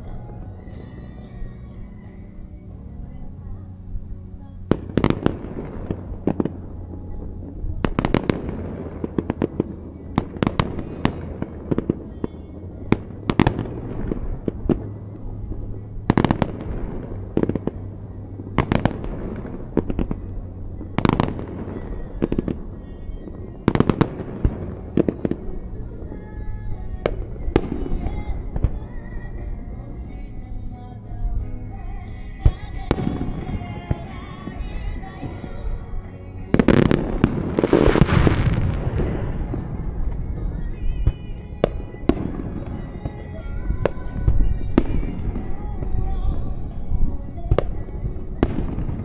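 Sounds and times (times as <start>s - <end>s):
background music: 0.0s - 49.0s
fireworks bursting in sharp bangs: 4.6s - 30.2s, 32.4s - 35.8s, 36.5s - 49.0s.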